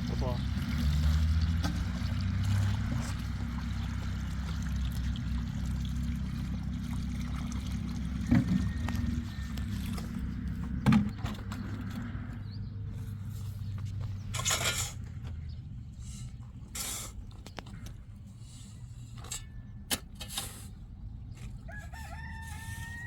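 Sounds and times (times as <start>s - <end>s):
concrete mixer engine droning: 0.0s - 23.0s.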